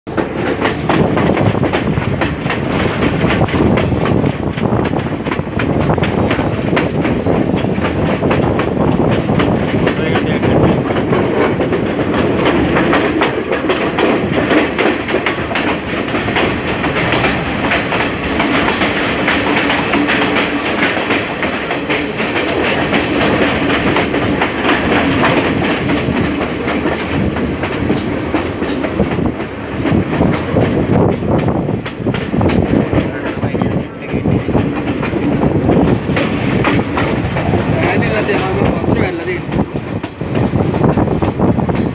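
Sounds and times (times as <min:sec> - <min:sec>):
train rumble: 0:00.1 - 0:41.9
wheels clattering over rails: 0:00.1 - 0:41.9.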